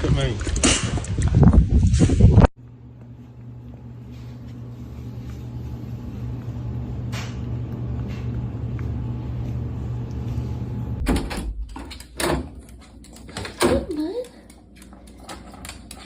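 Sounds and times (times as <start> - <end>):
low motor hum: 0.4 - 16.0.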